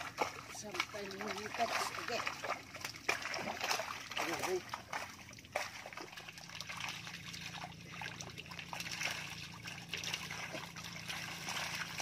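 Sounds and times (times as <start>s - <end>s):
faint low hum: 0.0s - 12.0s
water trickling and splashing: 0.0s - 12.0s.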